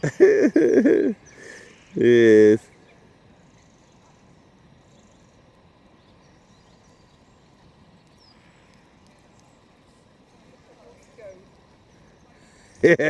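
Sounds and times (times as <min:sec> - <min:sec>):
distant bird chirps: 0:00.0 - 0:13.0
faint outdoor background noise: 0:00.0 - 0:13.0.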